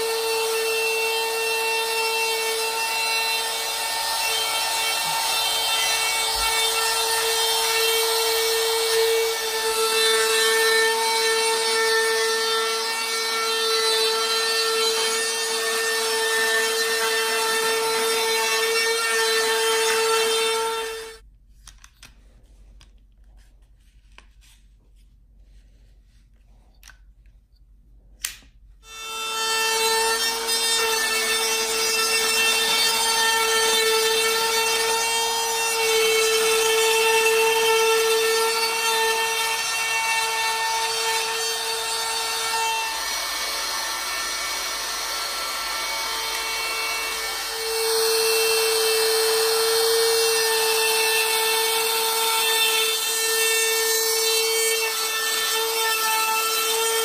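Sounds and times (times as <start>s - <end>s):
woodworking power tool whine: 0.0s - 21.2s, 28.8s - 57.0s.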